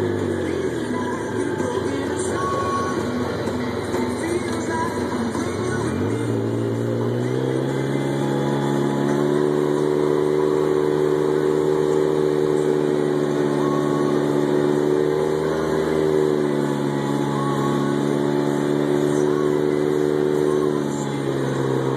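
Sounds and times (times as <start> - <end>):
vehicle engine accelerating: 0.0 - 21.9.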